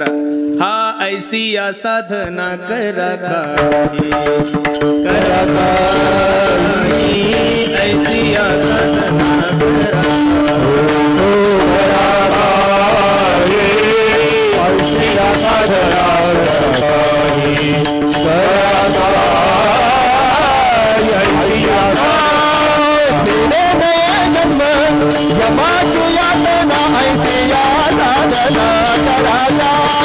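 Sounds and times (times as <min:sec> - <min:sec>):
man singing devotional song: 0:00.0 - 0:30.0
drum beats: 0:03.4 - 0:30.0.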